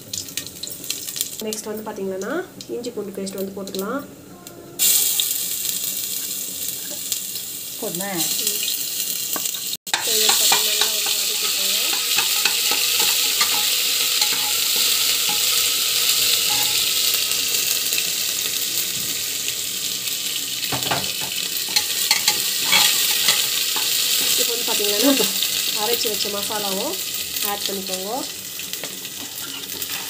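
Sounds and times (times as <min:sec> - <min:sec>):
spices sizzling in hot oil: 0:00.0 - 0:04.1, 0:04.8 - 0:30.0.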